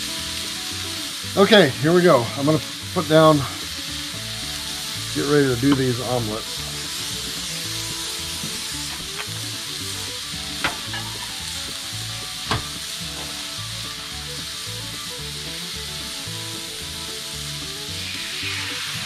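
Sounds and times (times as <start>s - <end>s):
eggs sizzling in frying pan: 0.0s - 19.0s.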